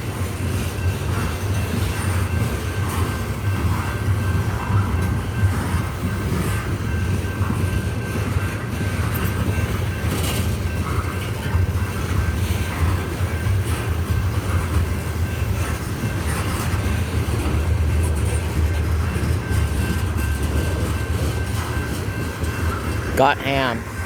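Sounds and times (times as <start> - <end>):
train cars clanking: 0.0 - 24.0
train wheels rumbling on rail: 0.0 - 24.0.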